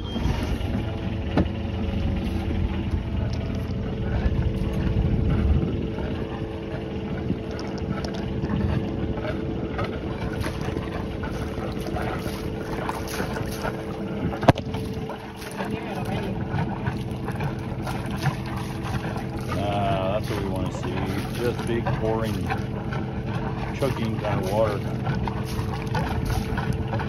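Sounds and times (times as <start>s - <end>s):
boat engine starting and running: 0.0s - 27.0s.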